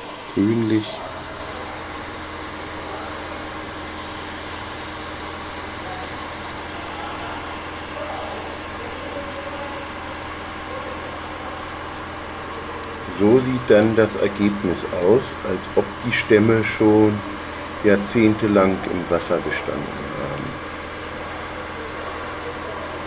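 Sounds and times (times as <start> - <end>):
steady mechanical hum with hiss: 0.0 - 23.0.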